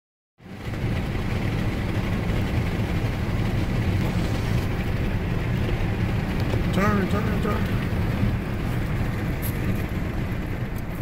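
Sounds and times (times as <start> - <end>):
vehicle cabin road rumble: 0.4 - 11.0.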